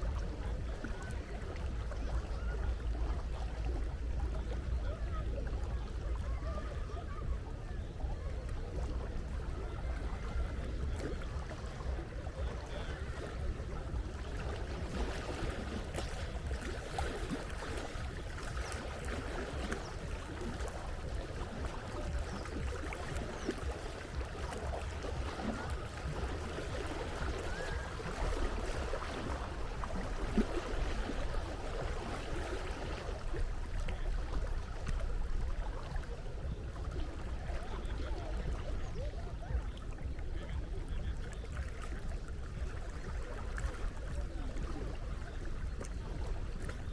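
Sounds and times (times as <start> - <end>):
sea water lapping and splashing: 0.0 - 46.9.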